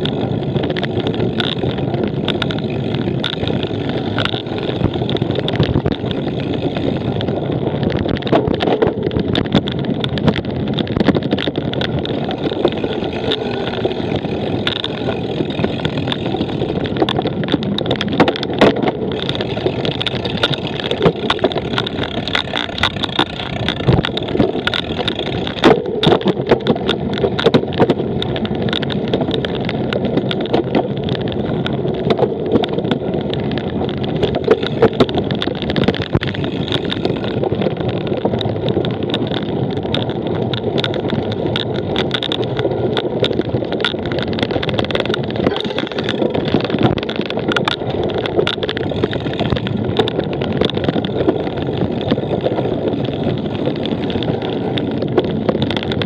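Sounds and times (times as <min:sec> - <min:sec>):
bike rattling and knocking: 0:00.0 - 0:56.0
wind on microphone: 0:00.0 - 0:56.0.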